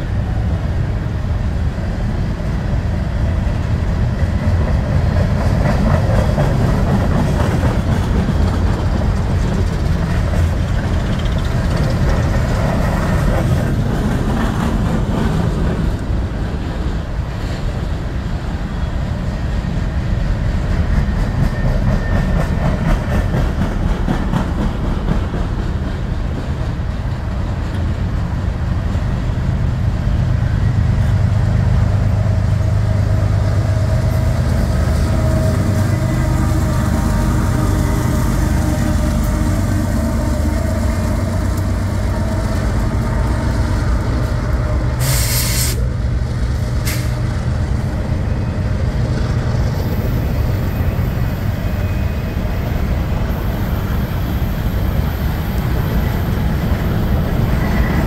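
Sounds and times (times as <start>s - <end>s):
diesel locomotive drone: 0.0s - 58.0s
train wheels clattering on rail: 0.0s - 58.0s.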